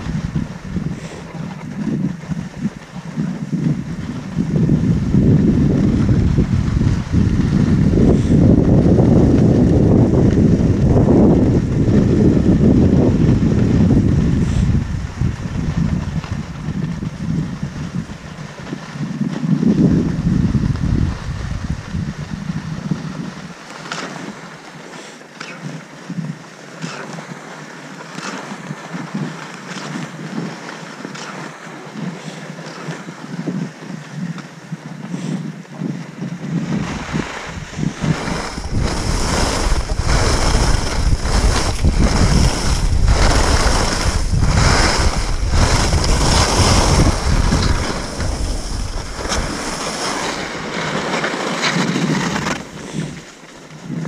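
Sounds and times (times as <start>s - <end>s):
wind buffeting microphone: 0.0s - 24.5s, 28.2s - 54.0s
skis scraping over snow: 0.0s - 54.0s.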